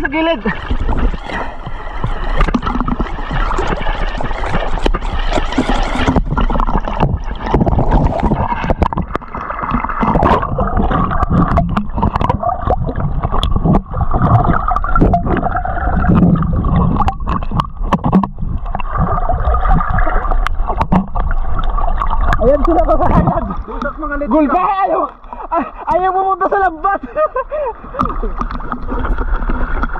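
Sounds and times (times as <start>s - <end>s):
underwater clicks and crackles: 0.0s - 29.9s
underwater gurgling rush: 0.0s - 29.9s
water splashing: 0.0s - 29.9s.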